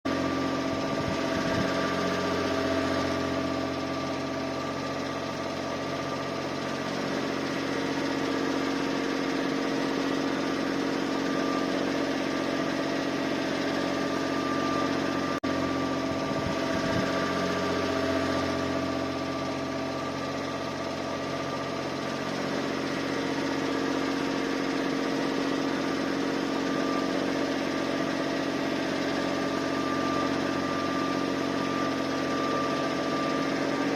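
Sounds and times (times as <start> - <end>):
car engine running: 0.0 - 33.9
engine rattling and clicking: 0.1 - 33.9.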